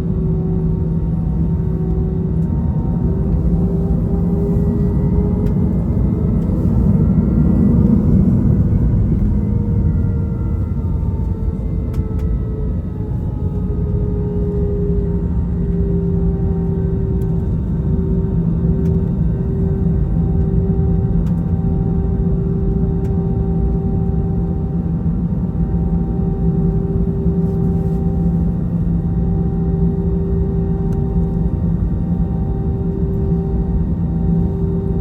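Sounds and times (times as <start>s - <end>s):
jet engines rumbling in cabin: 0.0s - 35.0s.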